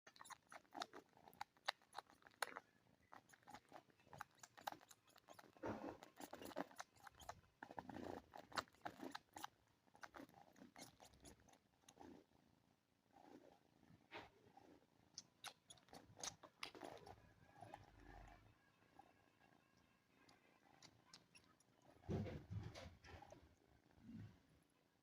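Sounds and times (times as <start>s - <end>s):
kitten suckling and nibbling: 0.0s - 12.4s, 13.1s - 24.3s.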